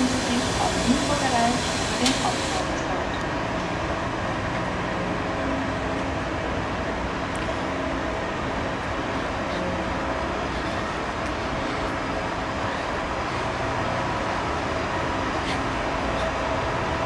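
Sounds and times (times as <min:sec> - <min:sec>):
rail-grinding train machine noise: 0:00.0 - 0:17.0.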